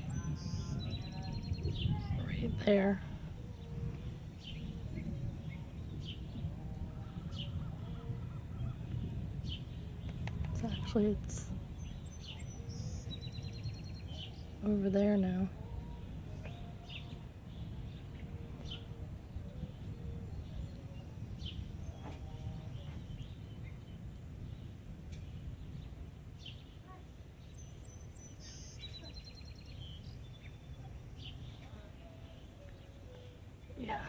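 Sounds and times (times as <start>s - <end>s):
songbirds chirping: 0.0s - 34.0s
steady low rumble: 0.0s - 34.0s.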